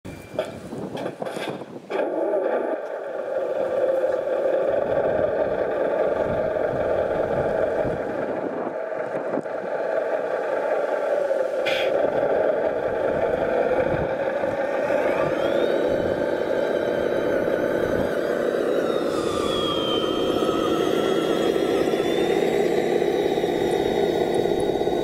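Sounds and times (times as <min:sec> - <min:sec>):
model truck motor whining drone: 0:01.9 - 0:25.0.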